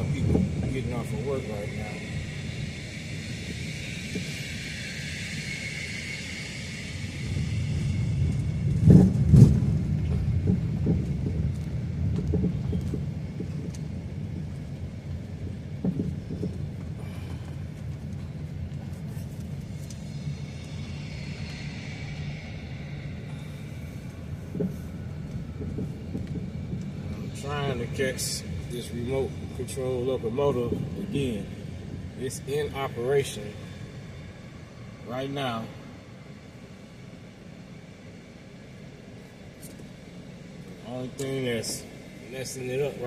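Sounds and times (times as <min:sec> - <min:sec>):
car engine and road rumble: 0:00.0 - 0:43.0.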